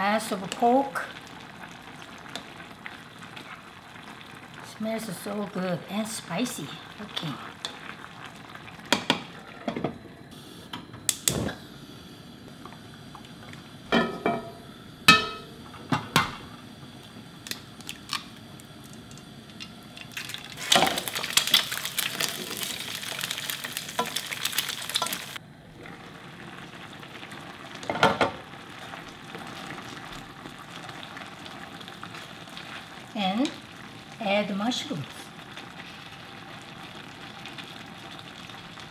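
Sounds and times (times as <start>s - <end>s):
egg sizzling in pan: 0.0s - 9.7s, 11.6s - 38.9s.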